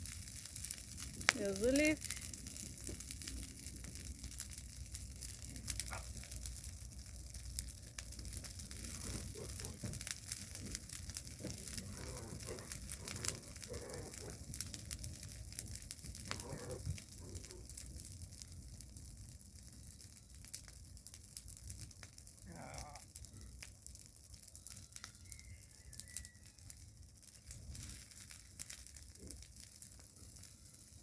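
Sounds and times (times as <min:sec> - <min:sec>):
bonfire crackling and popping: 0:00.0 - 0:31.0
low rush of fire: 0:00.0 - 0:31.0.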